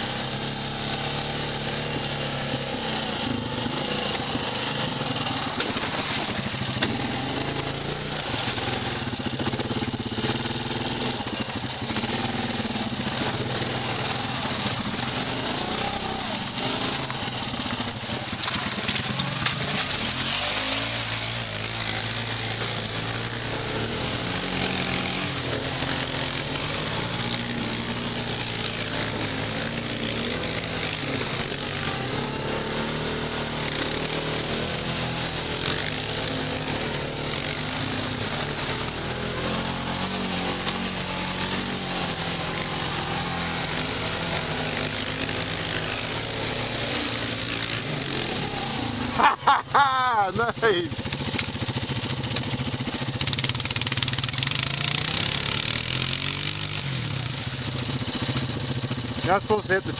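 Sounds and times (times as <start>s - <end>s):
atv engines revving: 0.0s - 59.9s.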